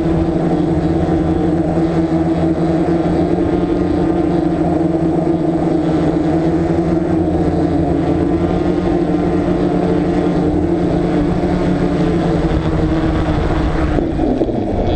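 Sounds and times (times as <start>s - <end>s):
drone motors buzzing: 0.0s - 14.9s.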